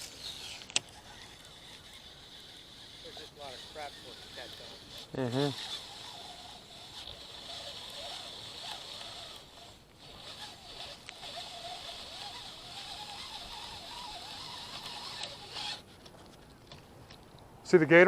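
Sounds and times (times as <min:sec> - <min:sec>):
outdoor ambience hiss: 0:00.0 - 0:18.0.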